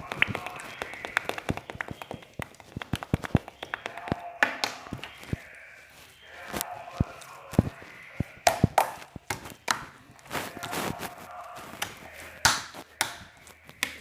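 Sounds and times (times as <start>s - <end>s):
sharp clicks and taps: 0.0s - 5.4s, 6.5s - 10.8s, 11.7s - 14.0s.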